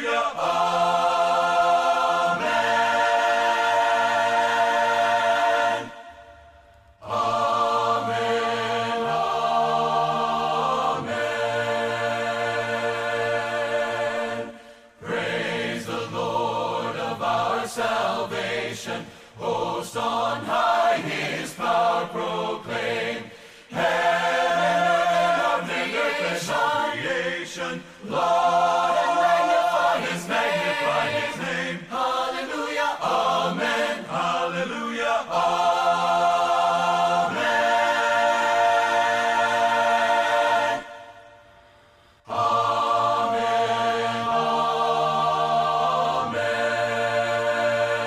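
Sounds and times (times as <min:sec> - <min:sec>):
choir singing a hymn: 0:00.0 - 0:48.0.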